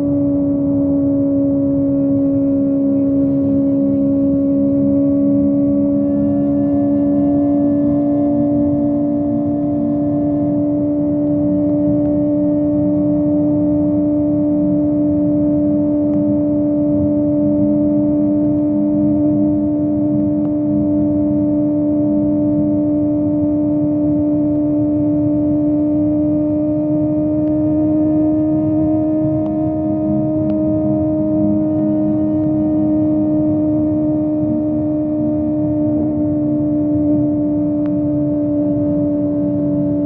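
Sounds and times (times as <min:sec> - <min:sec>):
motorcycle engine at high revs: 0:00.0 - 0:40.0
wind and road noise: 0:00.0 - 0:40.0.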